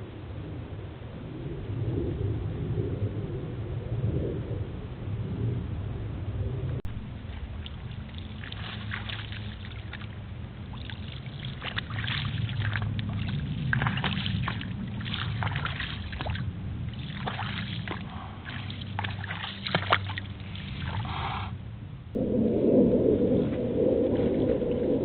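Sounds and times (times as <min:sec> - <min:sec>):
low engine-like drone: 0:00.0 - 0:25.0.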